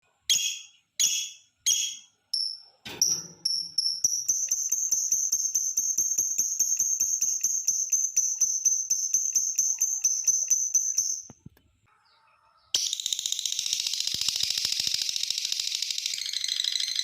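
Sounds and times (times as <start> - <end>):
lovebird chirping and trilling: 0.3 - 11.4, 12.0 - 17.0.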